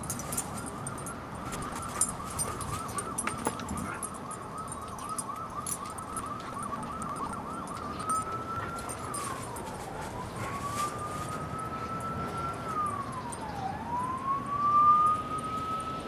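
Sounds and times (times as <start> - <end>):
emergency vehicle siren wailing: 0.0 - 16.0.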